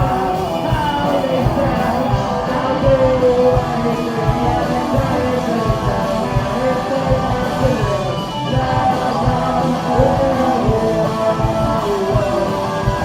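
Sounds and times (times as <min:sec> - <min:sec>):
rock band playing loudly: 0:00.0 - 0:13.0.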